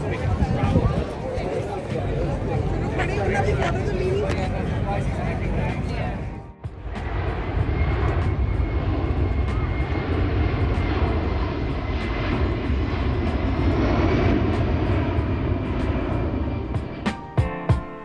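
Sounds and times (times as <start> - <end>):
aircraft engine rumble: 0.0 - 18.0.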